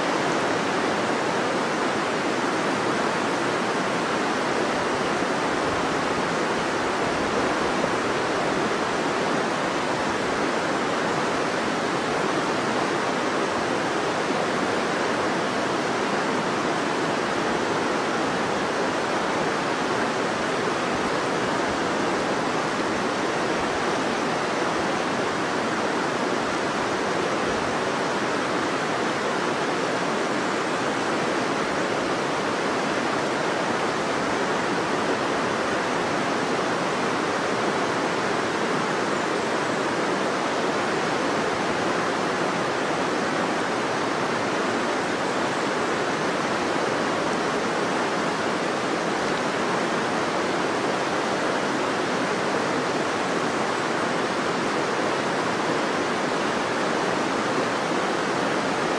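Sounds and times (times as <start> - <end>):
river flowing: 0.0 - 58.9.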